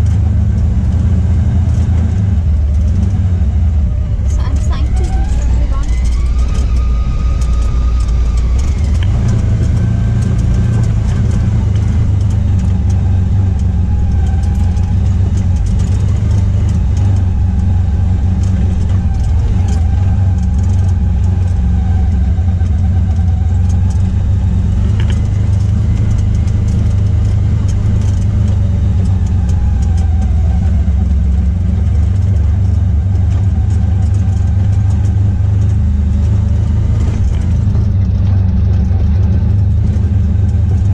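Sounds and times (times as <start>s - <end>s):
vehicle engine low drone: 0.0s - 40.9s.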